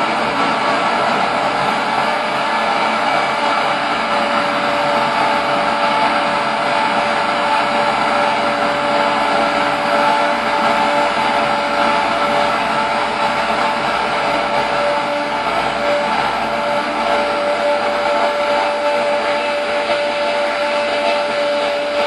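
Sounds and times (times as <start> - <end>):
electric razor drone buzz: 0.0 - 22.0.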